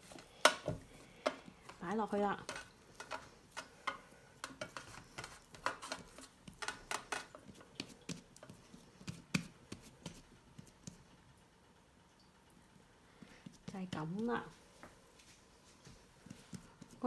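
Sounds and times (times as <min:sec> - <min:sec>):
hands patting dough: 0:00.0 - 0:11.2, 0:13.2 - 0:15.0, 0:15.7 - 0:17.0.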